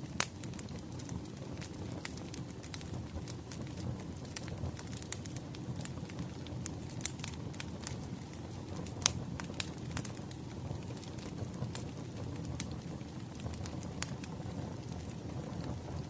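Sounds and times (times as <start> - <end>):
crackling wood fire: 0.0 - 16.0.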